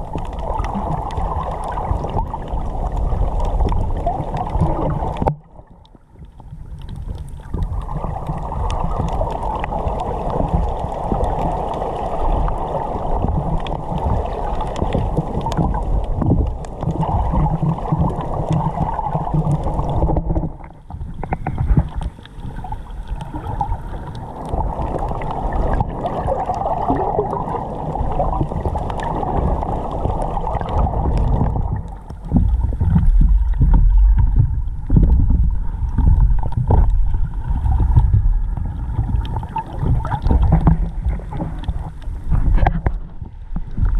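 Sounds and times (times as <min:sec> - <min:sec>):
muffled underwater rushing and sloshing: 0:00.0 - 0:43.9.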